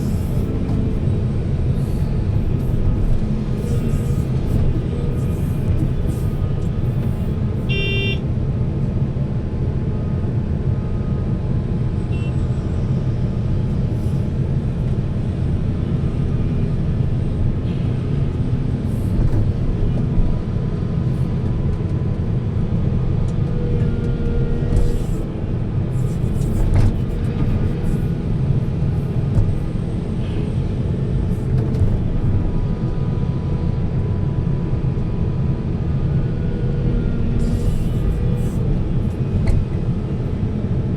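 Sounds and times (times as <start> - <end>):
heavy diesel machinery rumble: 0.0 - 40.9.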